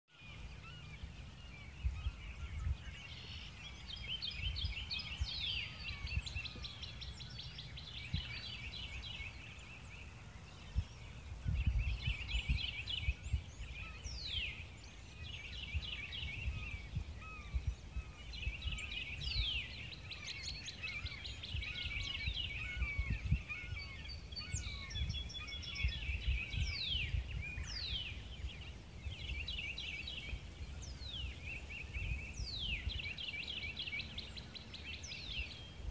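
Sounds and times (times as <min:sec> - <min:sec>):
songbirds chirping and trilling: 0:00.1 - 0:35.9
wind rumble on microphone: 0:00.2 - 0:35.9.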